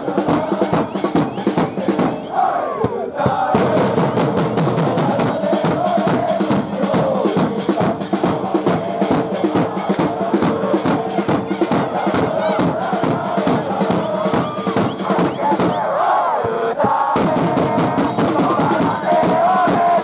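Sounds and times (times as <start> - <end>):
bass and snare drums beating: 0.0 - 20.0
crowd of fans chanting: 0.0 - 20.0.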